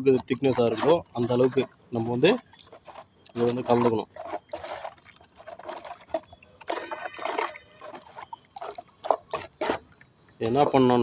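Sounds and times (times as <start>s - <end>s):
cement slurry being stirred: 0.0s - 11.0s.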